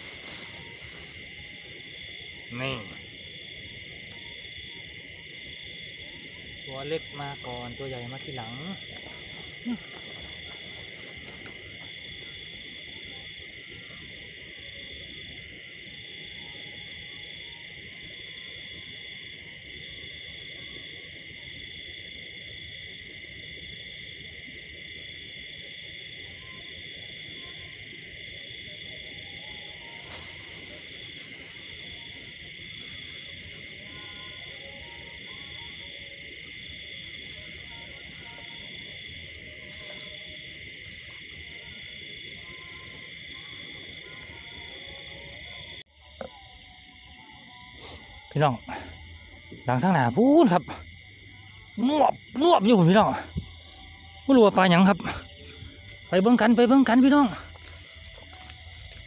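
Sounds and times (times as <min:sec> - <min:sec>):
insects trilling: 0:00.0 - 0:59.0
short lower insect calls: 0:00.0 - 0:59.0.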